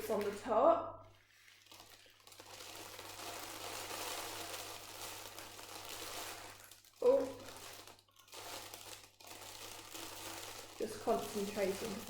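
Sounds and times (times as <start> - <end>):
oats pouring into plastic bottle: 0.0 - 12.0.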